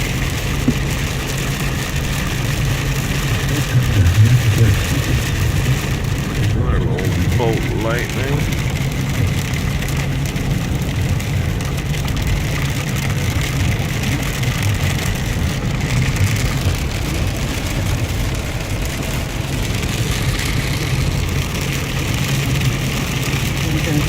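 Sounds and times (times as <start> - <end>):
car engine and road rumble: 0.0 - 24.0
rain hitting car roof: 0.0 - 24.0.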